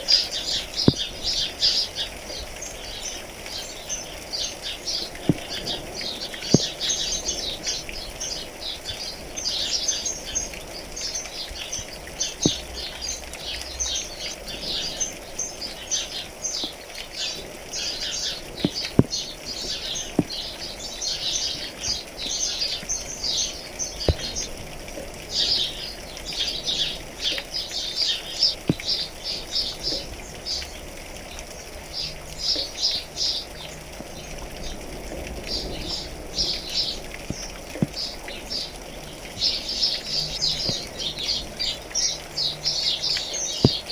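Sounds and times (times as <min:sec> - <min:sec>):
birds chirping: 0:00.0 - 0:43.9
rain patter: 0:00.0 - 0:43.9
water drips: 0:00.0 - 0:43.9.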